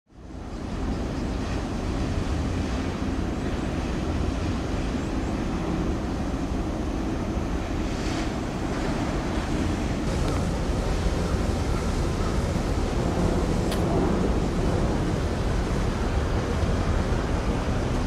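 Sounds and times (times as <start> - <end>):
low hum of ship engines: 0.1 - 18.0
wind rumbling on microphone: 0.2 - 18.0.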